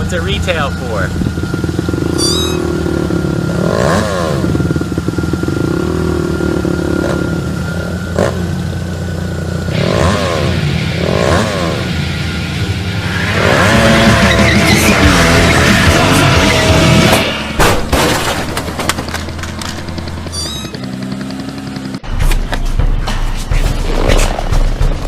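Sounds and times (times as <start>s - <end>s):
engine running and revving: 0.0s - 25.0s.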